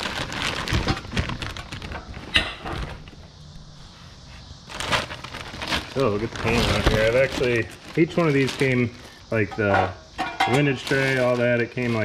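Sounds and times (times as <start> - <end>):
plastic bag crinkling: 0.0 - 3.4, 4.6 - 9.6, 10.2 - 12.0.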